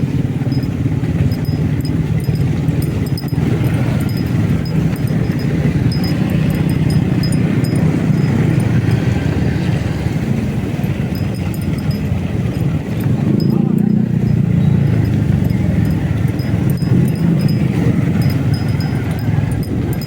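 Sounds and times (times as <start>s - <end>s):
motorcycle engine running: 0.0s - 20.0s
road noise: 0.0s - 20.0s.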